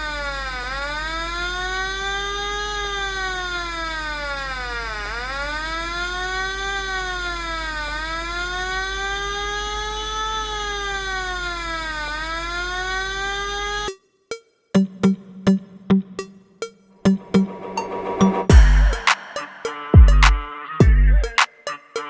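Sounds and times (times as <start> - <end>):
electronic siren wailing: 0.0 - 13.8, 17.1 - 21.7.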